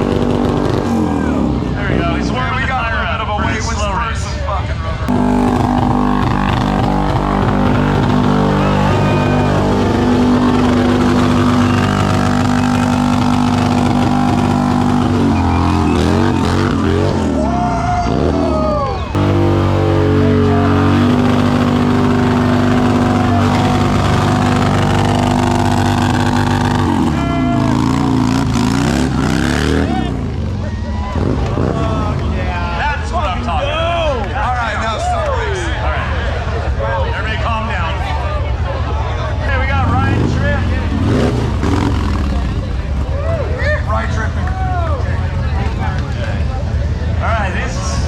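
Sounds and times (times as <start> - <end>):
motorcycle engines running: 0.0 - 48.0.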